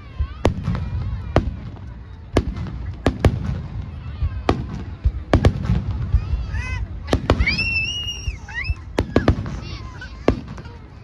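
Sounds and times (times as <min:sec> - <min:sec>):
low rumble of distant bursts: 0:00.0 - 0:11.0.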